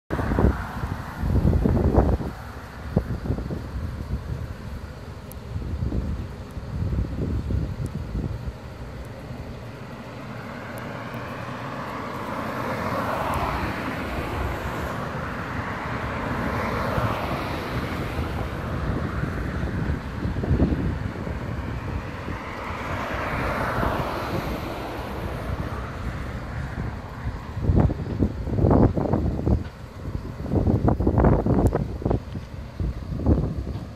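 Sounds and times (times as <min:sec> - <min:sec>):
strong gusting wind: 0:00.1 - 0:33.9
electric train rumbling: 0:00.2 - 0:33.9.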